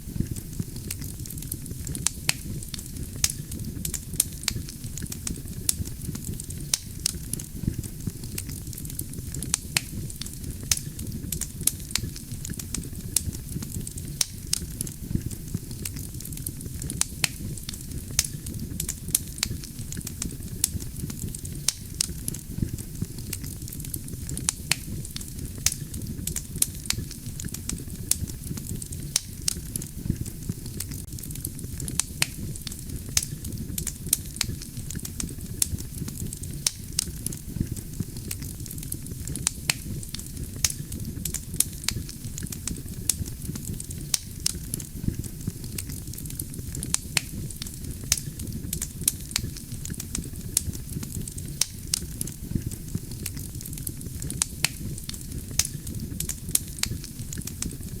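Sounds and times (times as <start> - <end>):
burning logs crackling and popping: 0.0 - 58.0
campfire flames rumbling: 0.0 - 58.0.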